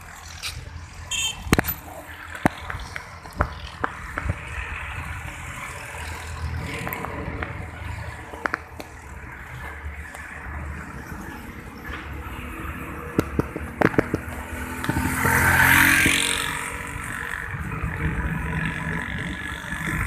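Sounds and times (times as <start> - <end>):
wind rumble on microphone: 0.2 - 20.0.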